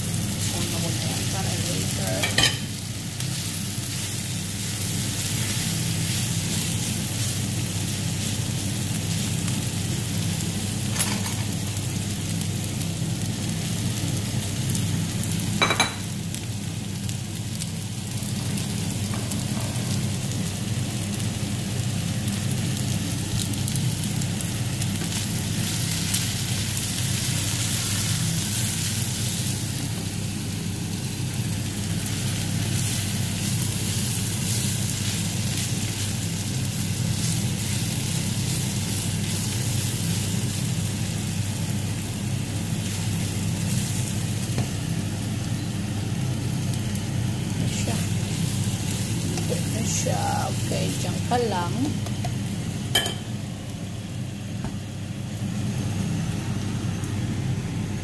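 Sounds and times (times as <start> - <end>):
meat sizzling in a pan: 0.0 - 58.0
steady low hum: 0.0 - 58.0.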